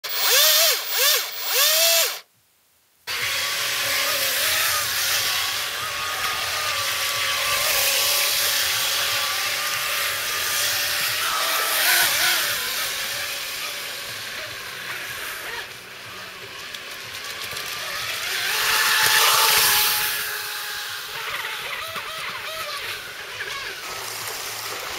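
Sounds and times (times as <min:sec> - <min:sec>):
electric motor whine: 0:00.0 - 0:02.2, 0:03.1 - 0:24.9.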